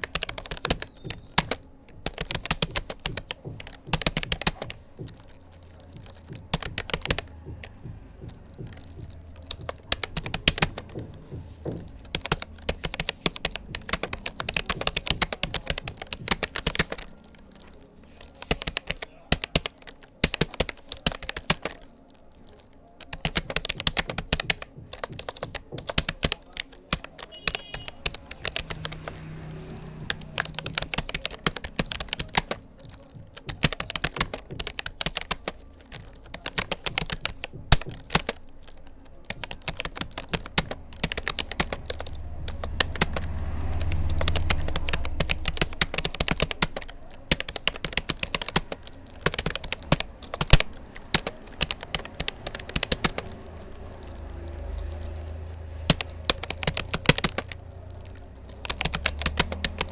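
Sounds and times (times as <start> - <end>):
keyboard key clicks: 0.0 - 59.9.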